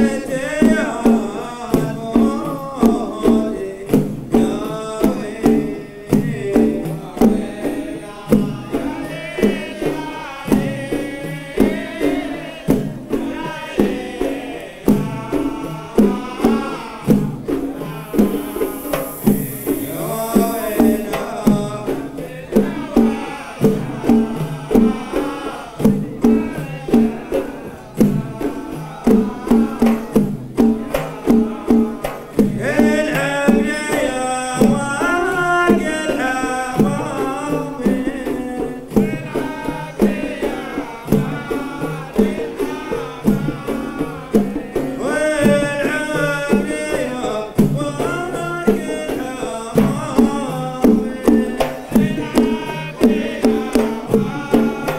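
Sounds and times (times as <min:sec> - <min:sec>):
frame drums beating: 0:00.0 - 0:54.9
men singing in a group: 0:00.0 - 0:54.9.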